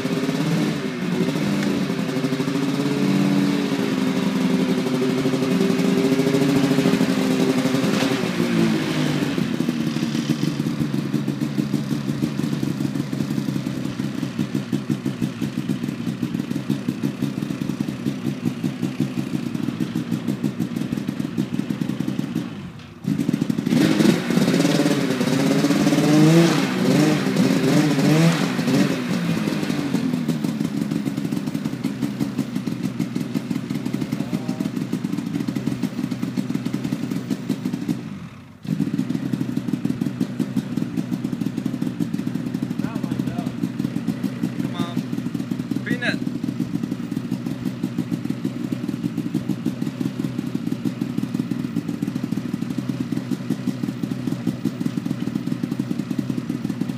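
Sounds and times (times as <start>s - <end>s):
snowmobile engine idling and revving: 0.0s - 56.9s.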